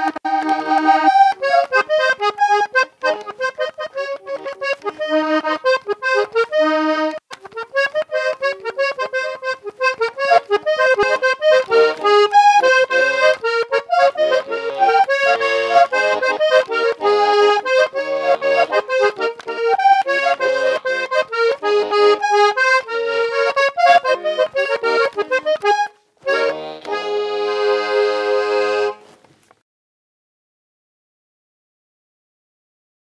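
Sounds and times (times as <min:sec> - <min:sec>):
instrumental background music: 0:00.0 - 0:29.1.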